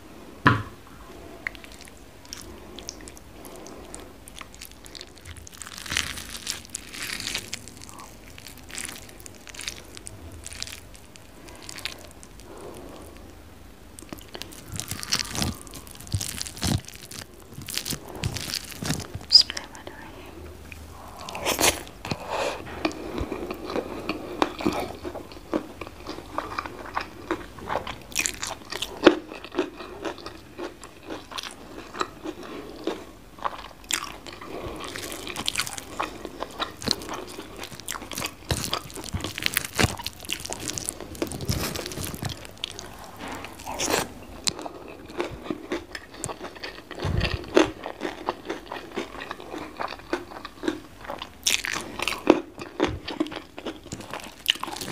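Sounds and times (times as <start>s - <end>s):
crunchy bites and wet chewing: 1.5s - 13.3s, 14.0s - 19.7s, 21.2s - 54.9s.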